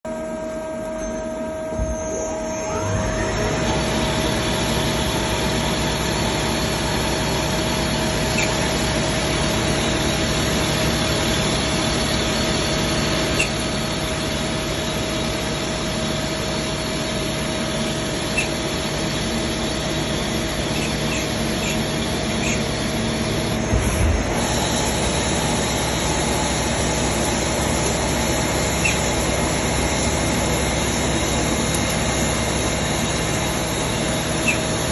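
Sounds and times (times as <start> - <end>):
machine tool whining: 0.1 - 34.9.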